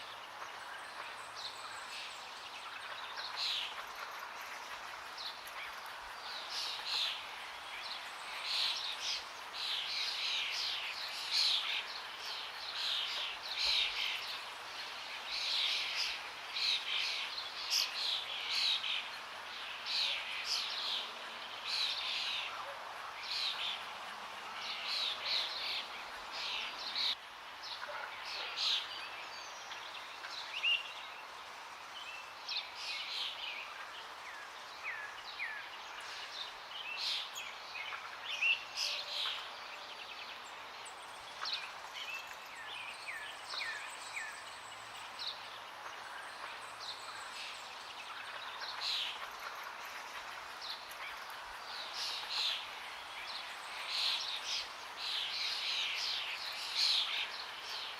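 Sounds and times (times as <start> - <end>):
songbirds chirping: 0.0 - 57.9.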